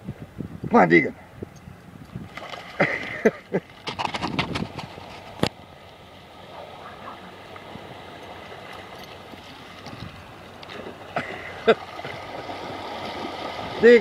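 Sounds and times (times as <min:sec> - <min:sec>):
small waves washing on shore: 0:02.0 - 0:14.0.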